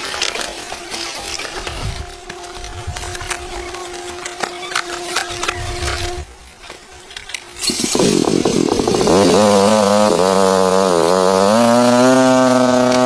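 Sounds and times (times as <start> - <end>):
small engine starting and running: 0.0 - 13.0.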